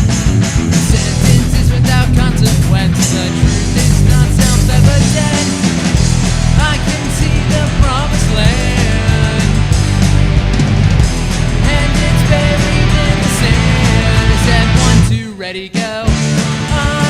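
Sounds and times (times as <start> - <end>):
rock band playing loudly: 0.0 - 17.0.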